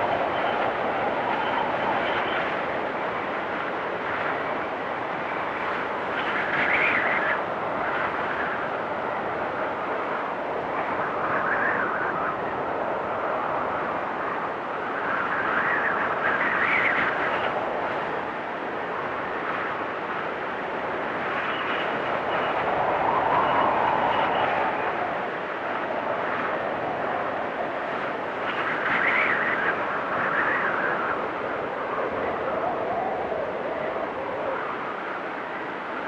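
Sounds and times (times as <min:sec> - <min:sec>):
strong wind gusting: 0:00.0 - 0:36.0.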